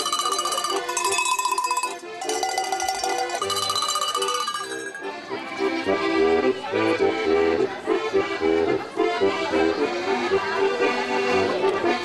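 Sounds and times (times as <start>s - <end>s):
accordion playing folk dance tune: 0.0s - 12.0s.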